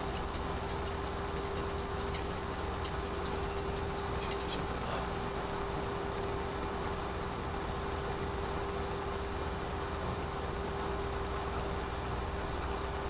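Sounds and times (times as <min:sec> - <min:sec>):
airflow and jet engine rush: 0:00.0 - 0:13.0
constant hum tone: 0:00.0 - 0:13.0.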